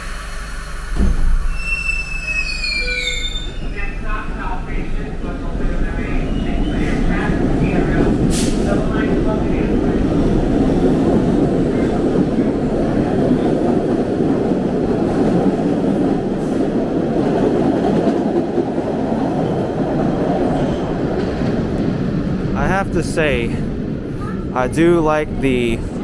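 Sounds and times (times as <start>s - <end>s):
subway train wheels on rails: 0.0s - 26.0s.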